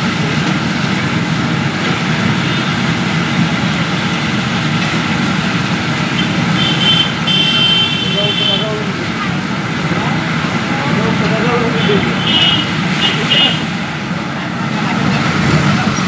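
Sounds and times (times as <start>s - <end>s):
oil sizzling: 0.0s - 15.4s
burner flame roaring: 0.0s - 16.0s.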